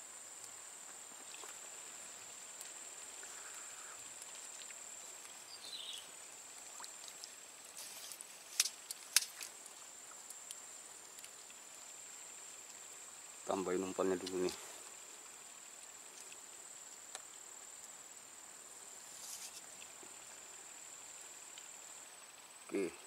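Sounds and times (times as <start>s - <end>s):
insect trill: 0.0s - 23.0s.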